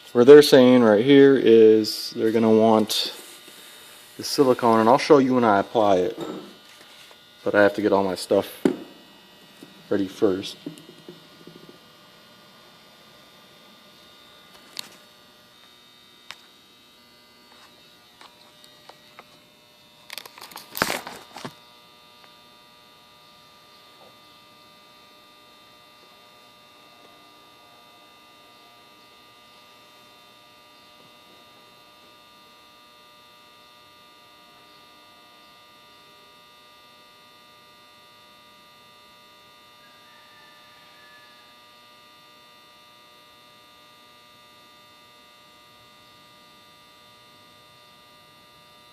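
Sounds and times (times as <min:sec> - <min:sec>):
steady electrical hum: 0:00.0 - 0:48.9.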